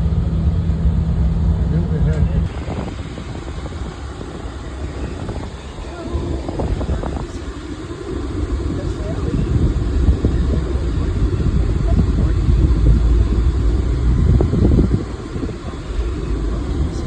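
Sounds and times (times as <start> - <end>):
ferry engine rumble: 0.0 - 17.0
wind buffeting: 0.0 - 17.0.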